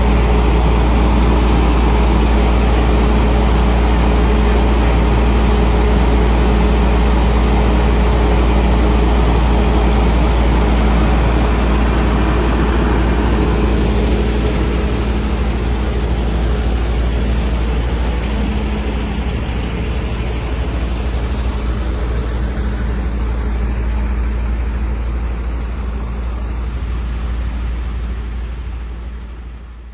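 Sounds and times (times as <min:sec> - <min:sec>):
heavy vehicle engine idling: 0:00.0 - 0:29.9.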